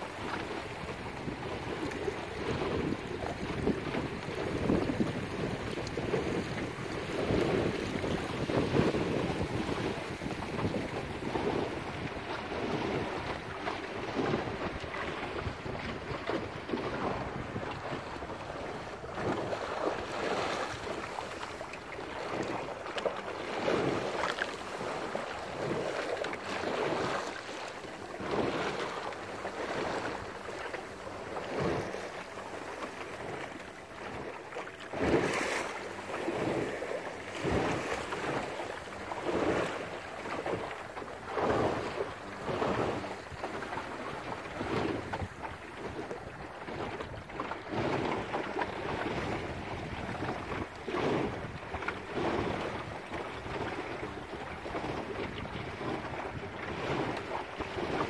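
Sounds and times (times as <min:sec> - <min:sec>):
water slapping along boat hull: 0:00.0 - 0:58.0
wind buffeting microphone: 0:00.0 - 0:58.0.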